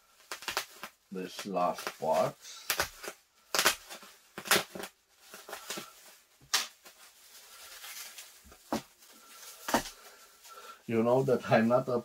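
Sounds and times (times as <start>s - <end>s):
faint rustling of wrapping: 0.0s - 12.0s.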